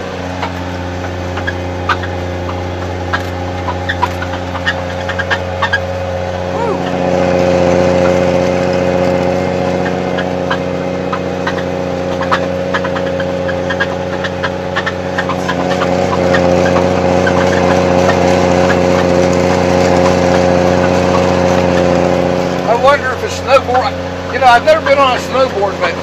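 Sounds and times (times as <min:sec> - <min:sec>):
snowcat engine running: 0:00.0 - 0:26.0.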